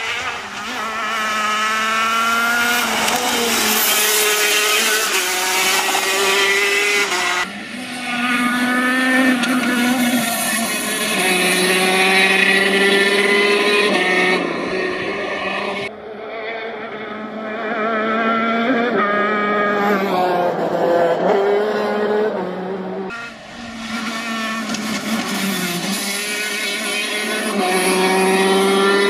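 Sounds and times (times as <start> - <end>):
kart engine revving high: 0.0 - 29.0.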